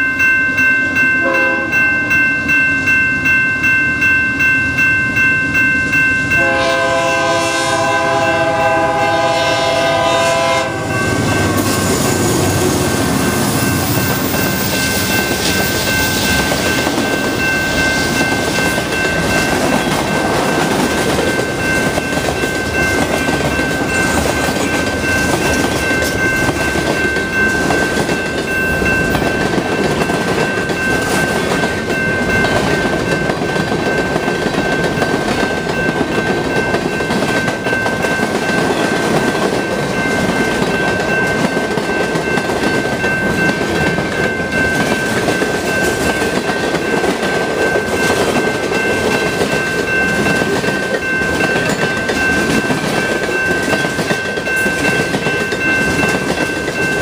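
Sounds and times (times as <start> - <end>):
freight train rolling past: 0.0 - 57.0
steady high-pitched tone: 10.4 - 57.0.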